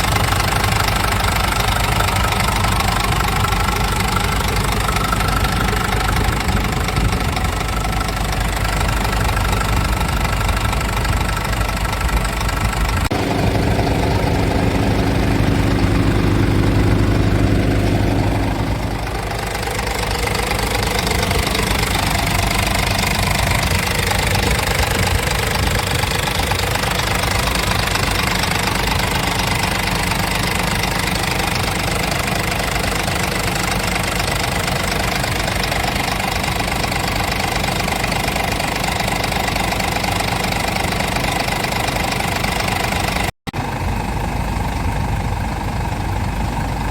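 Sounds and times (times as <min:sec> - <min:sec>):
truck diesel engine running: 0:00.0 - 0:46.9.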